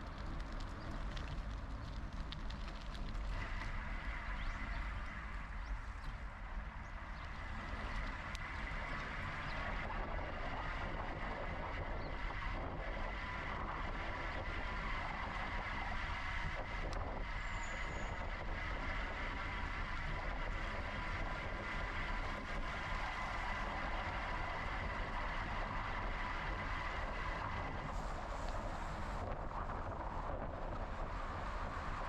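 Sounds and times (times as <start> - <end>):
bike rolling rumble: 0.0 - 32.0
steady high whine: 3.3 - 32.0
wind on microphone: 3.3 - 32.0.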